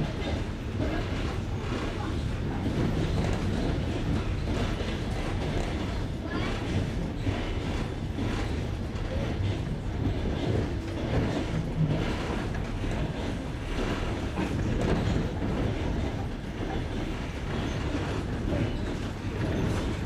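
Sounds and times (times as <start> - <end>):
train wheels clickety-clack: 0.0 - 20.0.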